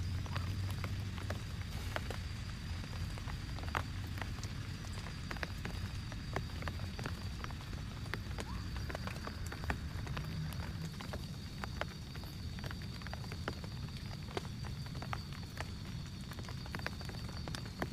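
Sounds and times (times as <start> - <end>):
raindrops ticking on surface: 0.0 - 17.9
steady low rumble of rain: 0.0 - 17.9.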